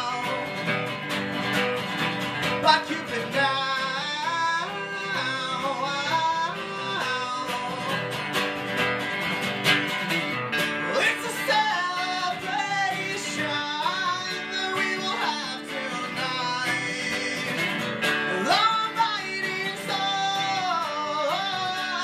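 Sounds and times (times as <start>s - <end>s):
acoustic guitars strumming: 0.0s - 22.0s.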